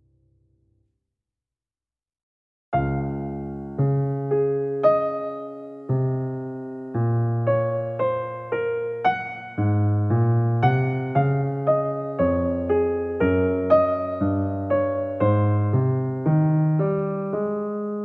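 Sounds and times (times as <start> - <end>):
slow gentle piano: 2.8 - 18.0.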